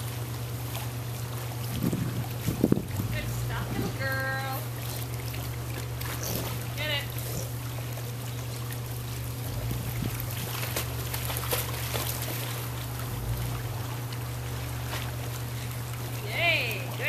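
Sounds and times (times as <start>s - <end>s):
pool water splashing: 0.0s - 17.0s
steady low hum: 0.0s - 17.0s.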